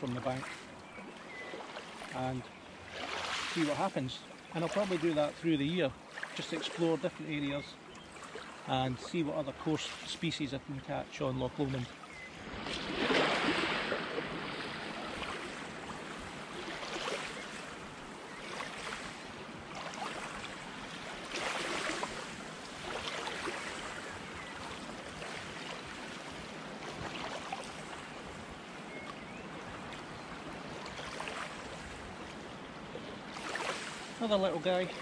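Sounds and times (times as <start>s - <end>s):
small waves washing onto shore: 0.0s - 35.0s.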